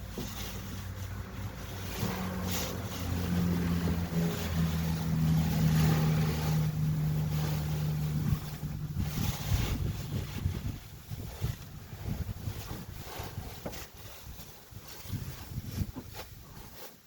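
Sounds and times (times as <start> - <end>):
low motor hum: 0.0 - 13.8
wind noise on microphone: 0.0 - 17.0.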